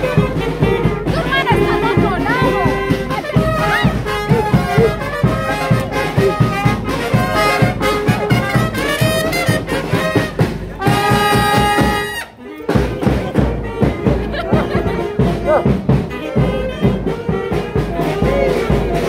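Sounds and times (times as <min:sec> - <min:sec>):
brass band playing lively tune: 0:00.0 - 0:19.0
steady drum beat: 0:00.0 - 0:19.0.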